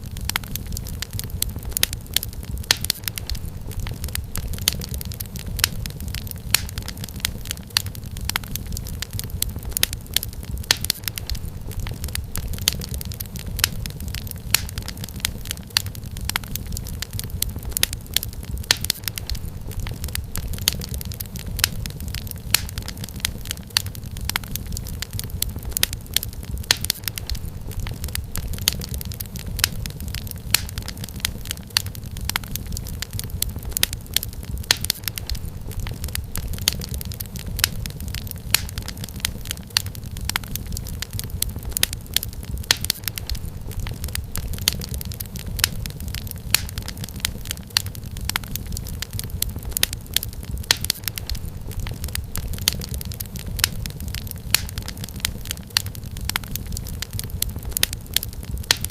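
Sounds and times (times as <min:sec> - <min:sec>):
low rumble of flames: 0:00.0 - 0:58.9
wood fire crackling and popping: 0:00.0 - 0:58.9.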